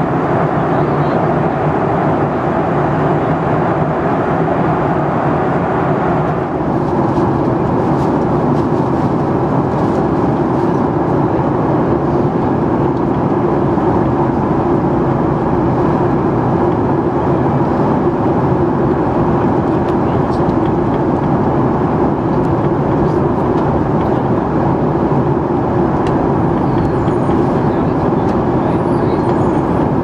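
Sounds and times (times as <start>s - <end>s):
airplane cabin engine roar: 0.0s - 30.0s.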